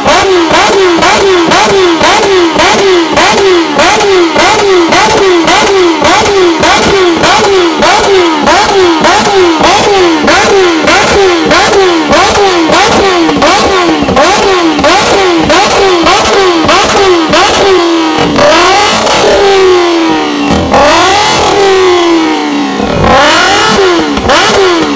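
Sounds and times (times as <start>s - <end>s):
exhaust crackling: 0.0s - 24.9s
motorcycle engine revving: 0.0s - 24.9s.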